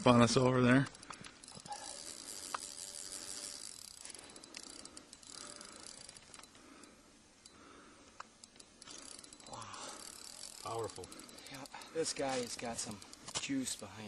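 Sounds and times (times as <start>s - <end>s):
fishing reel clicking: 0.0s - 14.0s.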